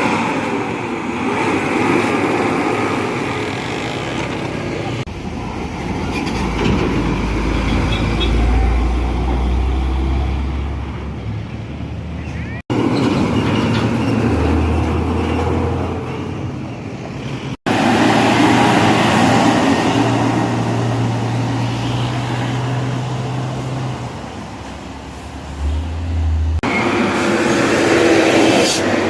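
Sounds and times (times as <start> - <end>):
road noise: 0.0 - 29.0
truck diesel engines: 0.0 - 29.0.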